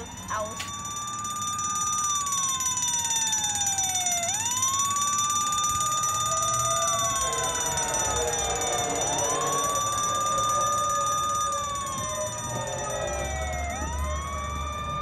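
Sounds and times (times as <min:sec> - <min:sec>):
toy fire engine siren wailing: 0:00.0 - 0:15.0.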